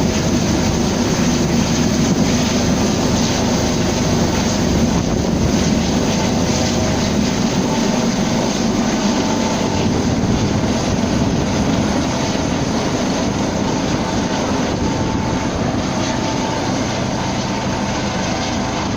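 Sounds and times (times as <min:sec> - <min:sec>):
helicopter rotor and engine: 0:00.0 - 0:18.9.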